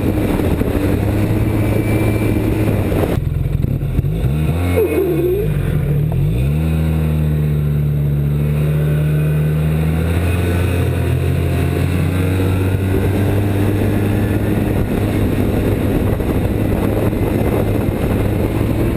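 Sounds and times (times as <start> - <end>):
snowmobile engine running: 0.0 - 18.9.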